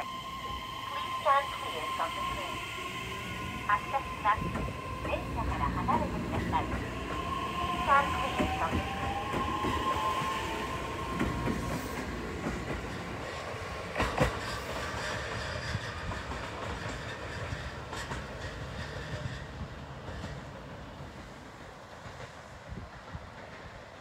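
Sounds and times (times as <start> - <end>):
train wheels clicking over rails: 4.4 - 23.9.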